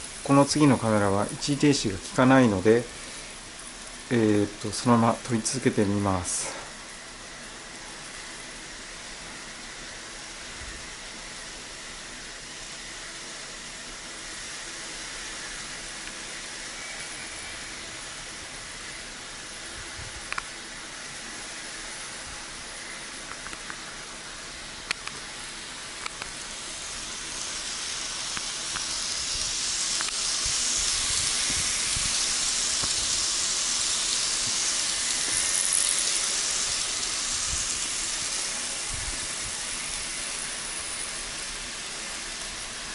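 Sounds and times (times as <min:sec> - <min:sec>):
model train rolling whir: 0:00.0 - 0:42.9.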